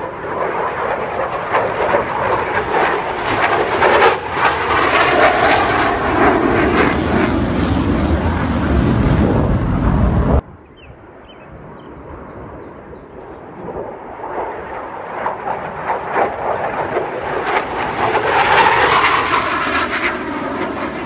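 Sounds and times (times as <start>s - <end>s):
fighter jet engine roar: 0.0s - 21.0s.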